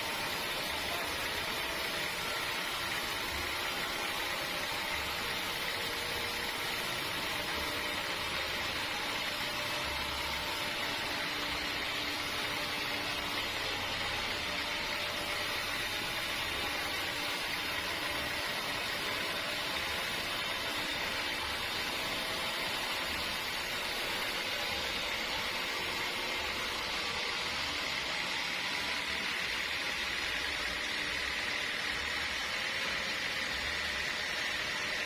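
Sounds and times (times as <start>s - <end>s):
sawmill machinery hissing and humming: 0.0s - 35.0s.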